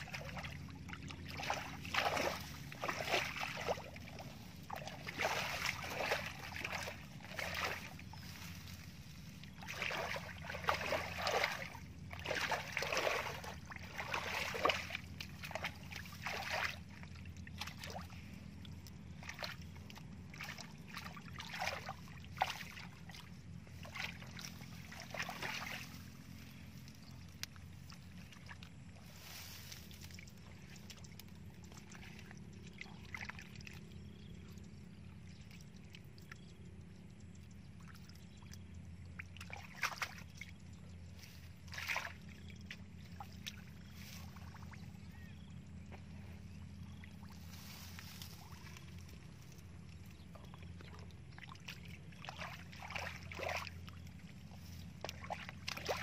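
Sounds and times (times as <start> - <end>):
bare feet splashing in shallow water: 0.0 - 56.0
steady low hum: 0.0 - 56.0.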